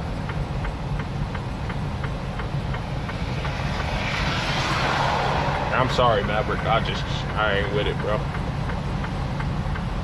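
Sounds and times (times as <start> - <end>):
truck engine and tyres rumbling: 0.0 - 10.0.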